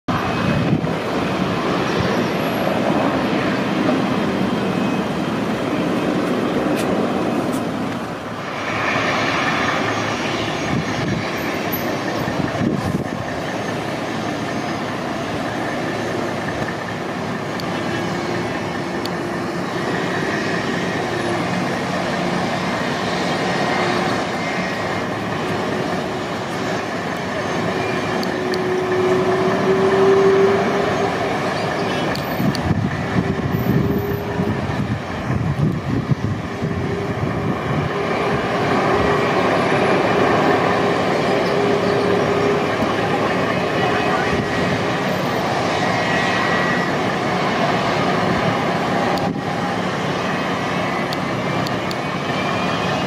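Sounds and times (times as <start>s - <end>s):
jet engines running at low thrust: 0.1s - 53.0s.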